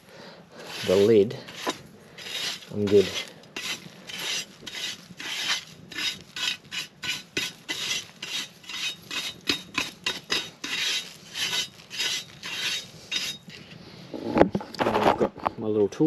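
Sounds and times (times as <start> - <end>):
stiff brush sweeping metal lid: 0.6 - 13.5.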